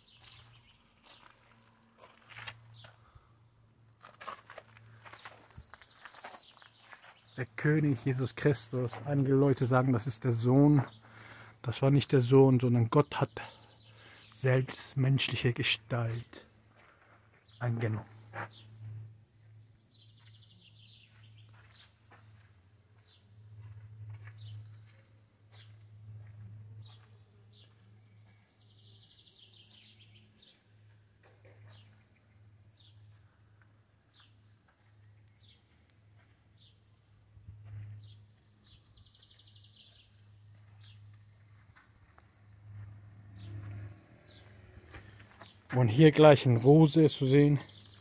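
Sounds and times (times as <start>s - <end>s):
small birds singing: 0.0s - 3.4s, 4.7s - 48.0s.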